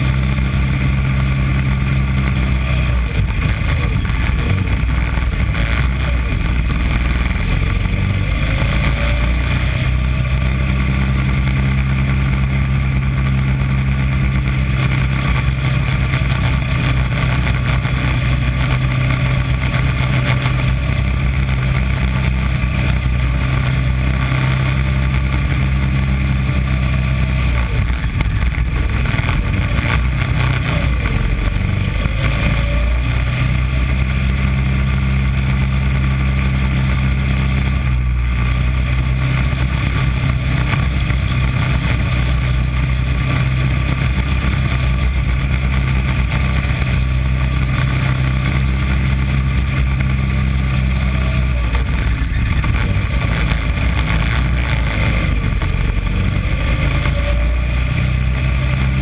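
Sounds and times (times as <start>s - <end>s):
small race car engine running: 0.0s - 59.0s.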